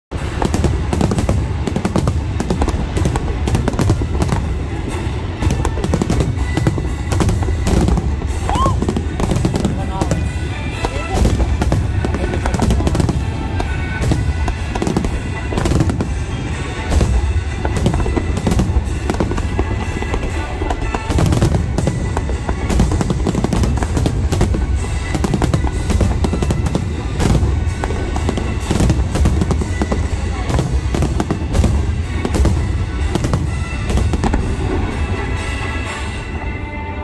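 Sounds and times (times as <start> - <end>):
fireworks booming and crackling: 0.1 - 37.0.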